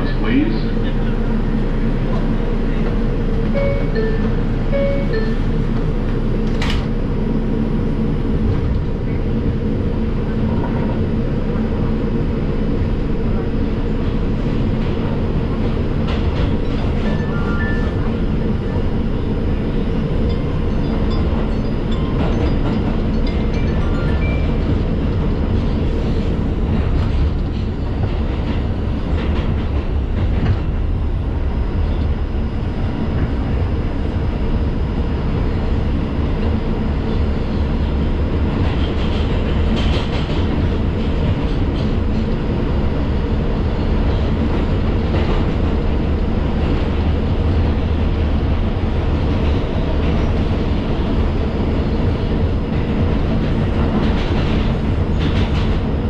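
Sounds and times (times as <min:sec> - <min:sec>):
rail clicks: 0:00.0 - 0:07.0, 0:08.4 - 0:32.2, 0:36.3 - 0:56.0
subway train wheels rumbling: 0:00.0 - 0:56.0.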